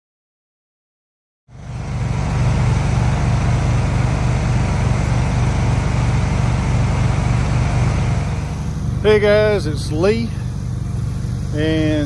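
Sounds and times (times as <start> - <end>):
garden tractor engine idling: 1.5 - 12.0.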